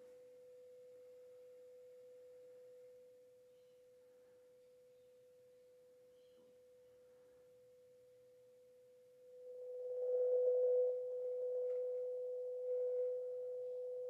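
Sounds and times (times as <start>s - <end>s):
sine-wave test tone: 0.0s - 14.0s.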